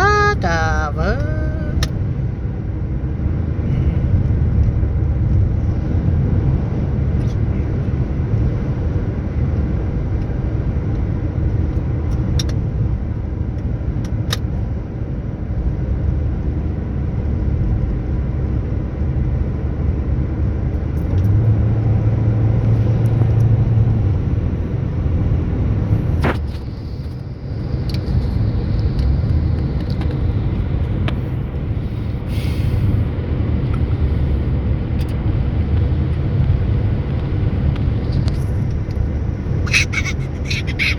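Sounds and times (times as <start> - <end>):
car driving on road: 0.0 - 40.9.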